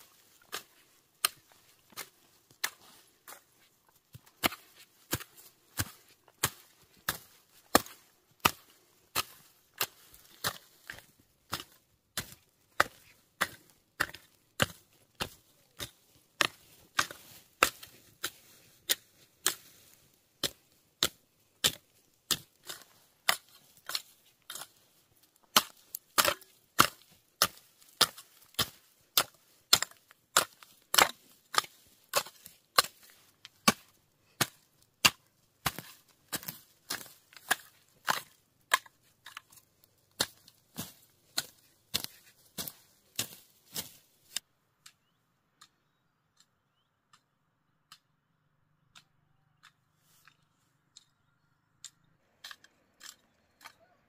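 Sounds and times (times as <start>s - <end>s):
hand hoe chopping into soil: 0.0s - 44.4s.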